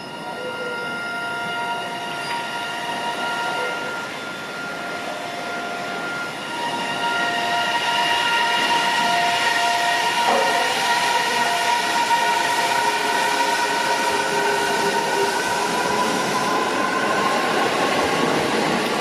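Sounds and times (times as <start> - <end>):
train inverter whine: 0.0 - 19.0
train rail running noise: 0.0 - 19.0.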